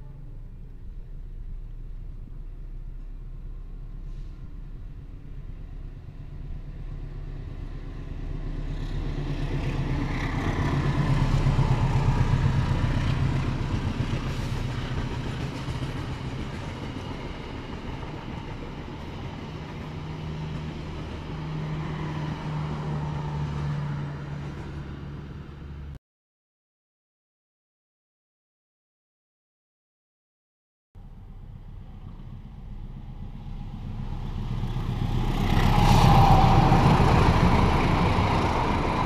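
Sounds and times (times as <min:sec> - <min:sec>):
locomotive engine drone: 0:00.0 - 0:26.0, 0:31.0 - 0:39.0
rail rumble: 0:00.0 - 0:26.0, 0:31.0 - 0:39.0.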